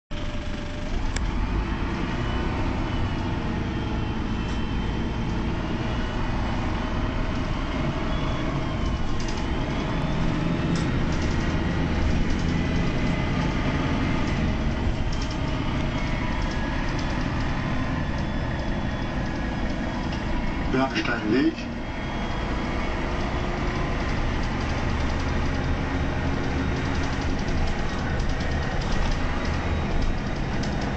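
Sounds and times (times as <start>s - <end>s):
bus diesel engine running: 0.1s - 30.9s
road noise: 0.1s - 30.9s.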